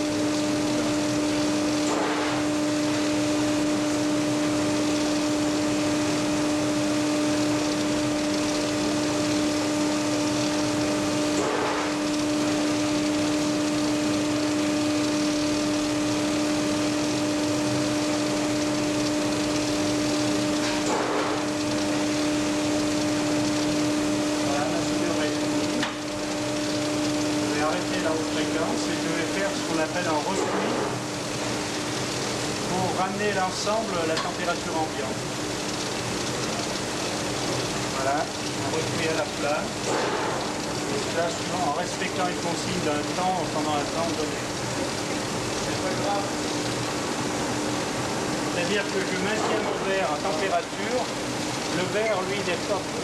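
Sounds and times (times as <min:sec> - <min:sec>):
induction heater humming: 0:00.0 - 0:53.0.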